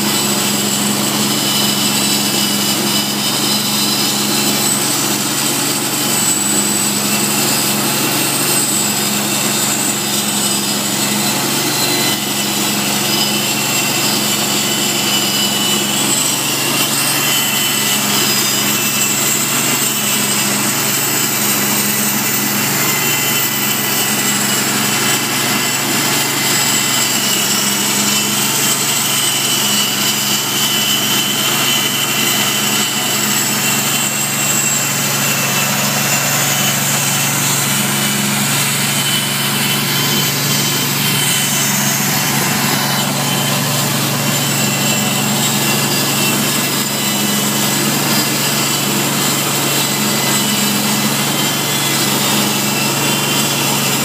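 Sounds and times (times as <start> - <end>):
band saw mill cutting log: 0.0 - 54.0.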